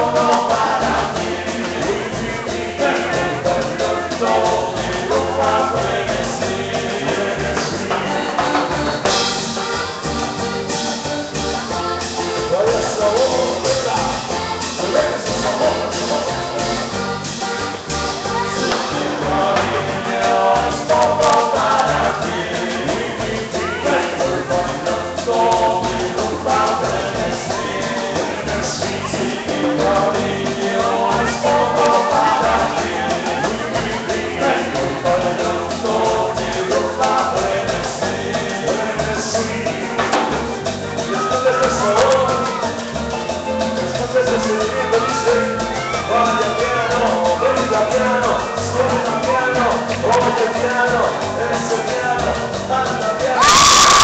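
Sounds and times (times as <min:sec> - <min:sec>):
live latin dance band: 0:00.0 - 0:54.0
person singing: 0:00.0 - 0:54.0.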